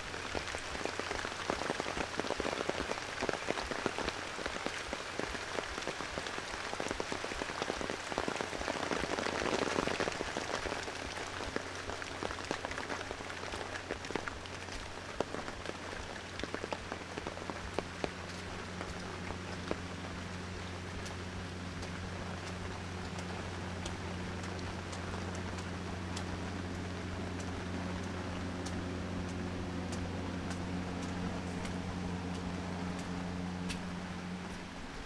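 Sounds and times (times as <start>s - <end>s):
low steady hum: 0.0s - 35.0s
rain on leaves and pavement: 0.0s - 35.0s
sharp close drips: 0.0s - 35.0s.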